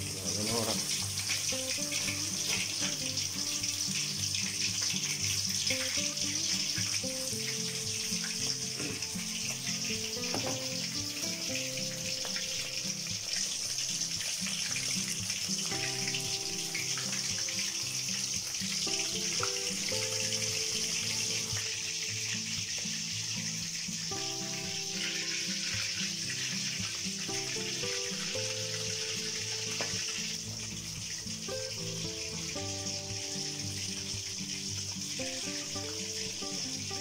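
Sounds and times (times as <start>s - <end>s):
background music: 0.0s - 37.0s
food deep-frying in oil: 0.0s - 37.0s.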